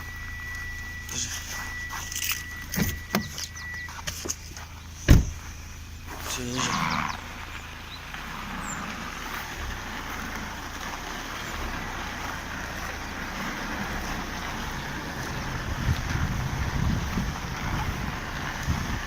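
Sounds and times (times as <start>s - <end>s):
low rumble: 0.0s - 19.0s
wind and road noise: 0.0s - 19.0s.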